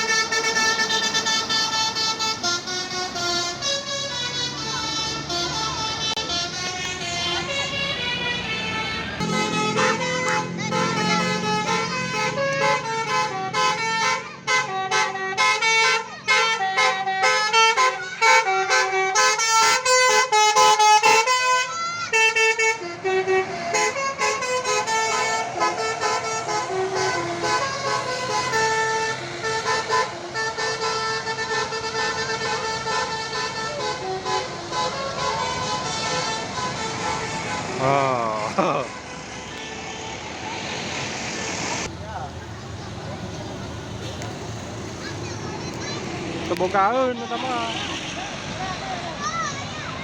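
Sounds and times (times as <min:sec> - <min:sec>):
bus musical air horn: 0:00.0 - 0:41.0, 0:47.3 - 0:48.8.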